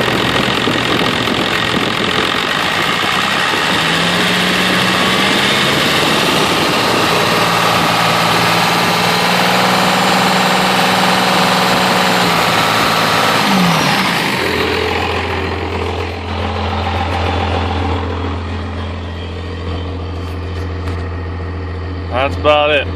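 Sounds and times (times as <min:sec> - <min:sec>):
diesel engine harsh exhaust: 0:00.0 - 0:22.9.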